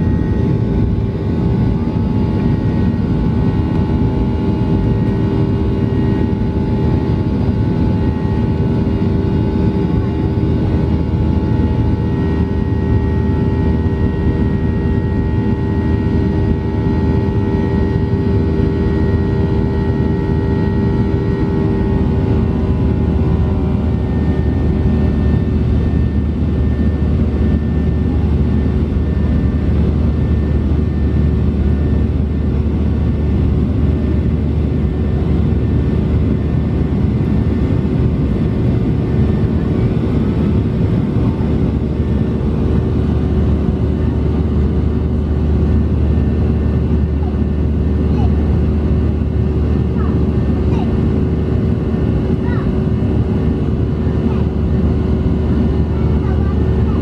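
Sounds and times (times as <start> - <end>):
jet engine rumble and whine in cabin: 0.0 - 57.0.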